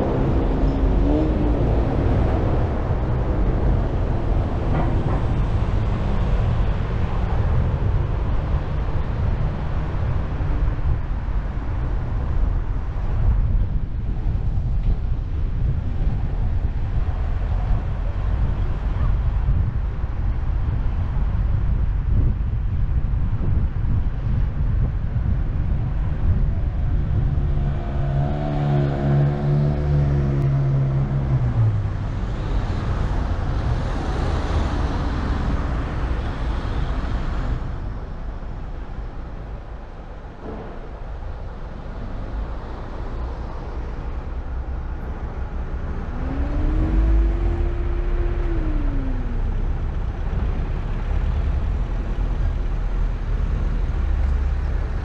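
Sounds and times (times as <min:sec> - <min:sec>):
engine drone: 0:00.0 - 0:22.4, 0:25.2 - 0:55.0
car engine and road rumble: 0:00.0 - 0:55.0
wind noise: 0:00.0 - 0:55.0.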